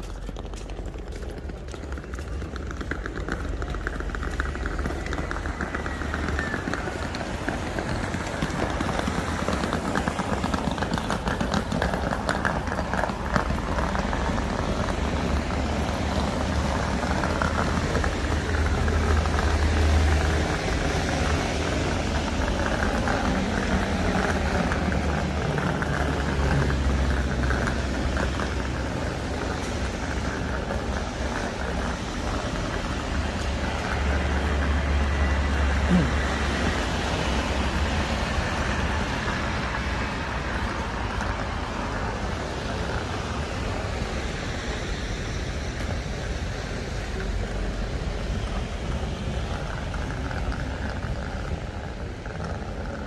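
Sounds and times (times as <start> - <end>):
traffic rumble: 0.0 - 53.0
vehicles passing: 0.0 - 53.0.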